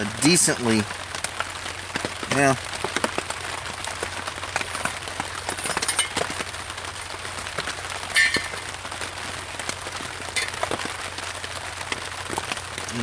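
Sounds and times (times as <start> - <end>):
rain pattering on tarp: 0.0 - 13.0.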